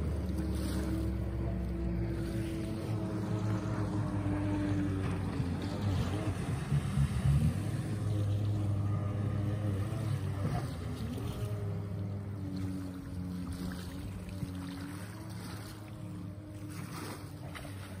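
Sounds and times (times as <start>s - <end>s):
jet ski engine running: 0.0s - 18.0s.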